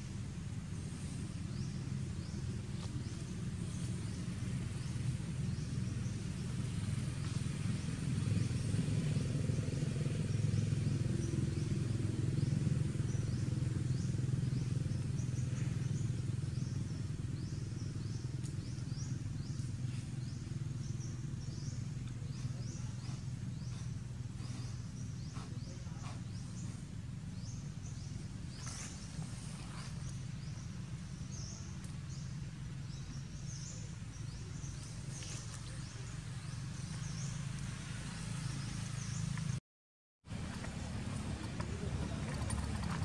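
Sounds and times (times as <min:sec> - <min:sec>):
low steady rumble: 0:00.0 - 0:39.6, 0:40.3 - 0:43.0.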